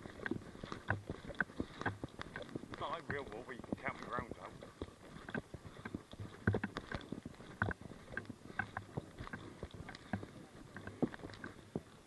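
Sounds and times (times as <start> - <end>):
knocks and rustles on microphone: 0.0 - 12.0.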